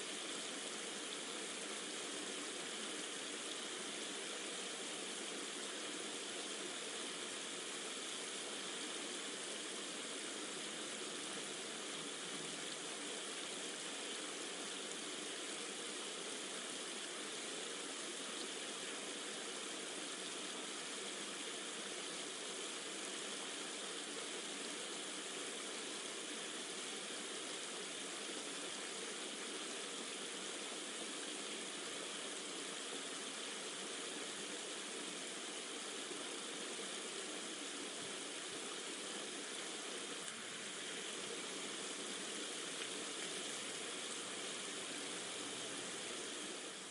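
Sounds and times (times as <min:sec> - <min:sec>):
flowing stream: 0:00.0 - 0:46.9
rain: 0:00.0 - 0:46.9.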